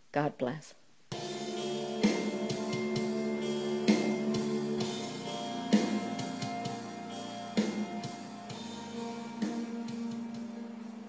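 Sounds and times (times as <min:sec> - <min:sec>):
instrumental music with strong beat: 0:01.1 - 0:11.0.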